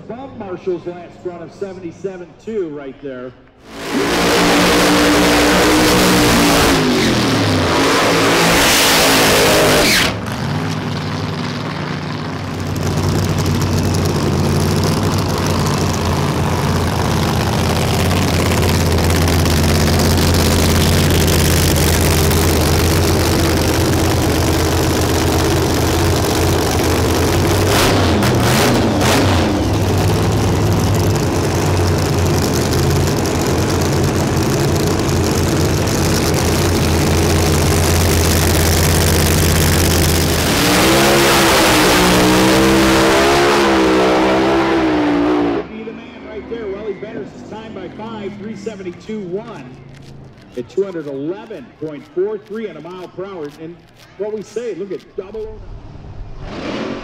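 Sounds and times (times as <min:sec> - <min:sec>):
engines idling: 0:03.4 - 0:56.2
drag racing engine revving: 0:03.6 - 0:50.7, 0:55.8 - 0:57.0.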